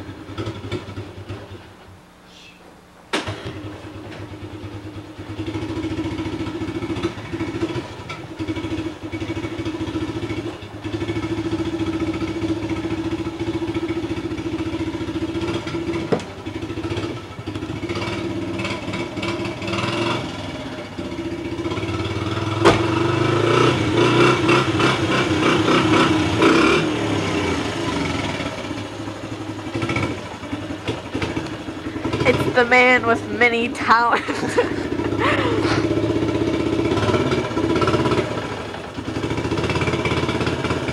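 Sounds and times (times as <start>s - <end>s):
small engine rattling: 3.1s - 40.9s.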